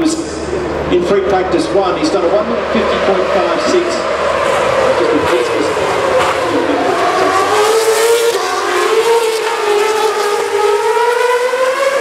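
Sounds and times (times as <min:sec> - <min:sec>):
racing car engines at high revs: 0:00.2 - 0:12.0.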